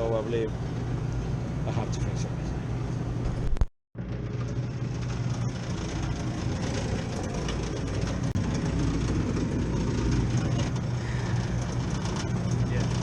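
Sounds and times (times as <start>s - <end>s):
low machine drone: 0.0s - 13.0s.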